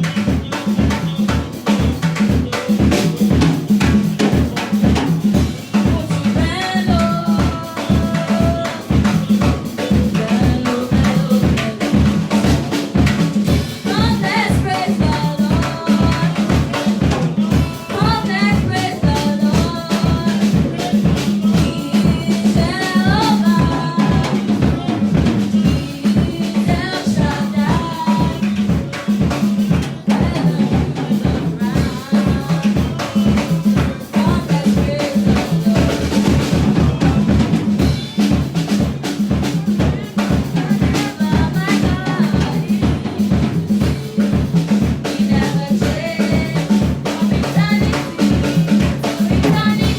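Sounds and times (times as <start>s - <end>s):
drum kit fast beat: 0.0s - 49.9s.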